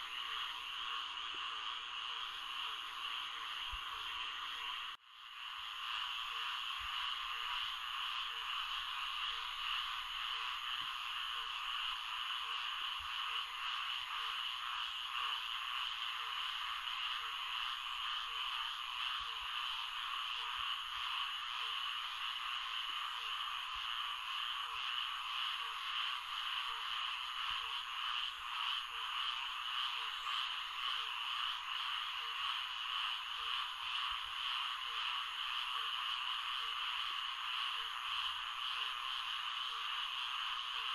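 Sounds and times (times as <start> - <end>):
chorus of frogs: 0.0 - 40.9
low frog call: 0.0 - 40.9.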